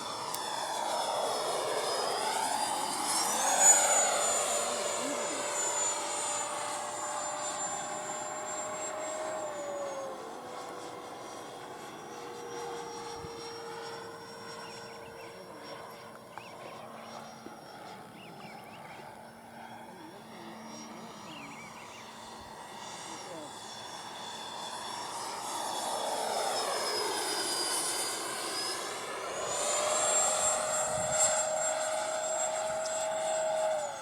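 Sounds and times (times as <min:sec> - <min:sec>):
model jet whining overhead: 0:00.0 - 0:34.0.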